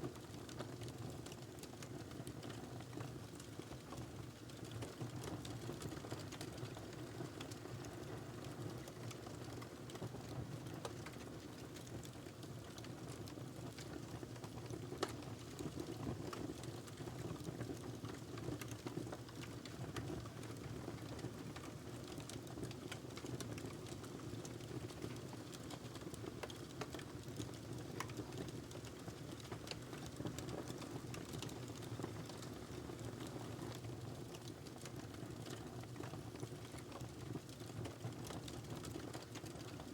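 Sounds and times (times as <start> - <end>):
fire crackling and popping: 0.1 - 39.8.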